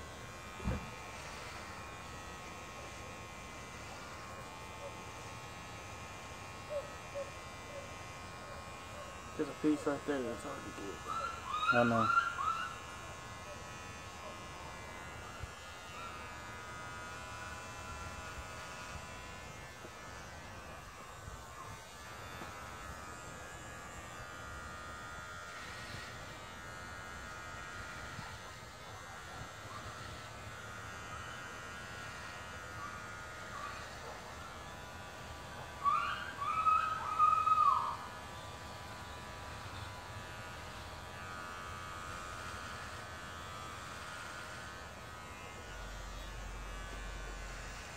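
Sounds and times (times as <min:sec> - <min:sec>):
hair clippers buzzing: 0:00.0 - 0:47.9.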